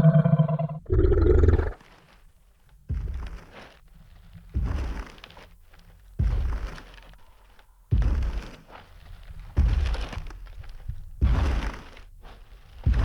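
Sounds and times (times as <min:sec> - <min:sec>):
heavy dinosaur footsteps: 0:00.0 - 0:01.8, 0:02.8 - 0:07.2, 0:07.9 - 0:13.0.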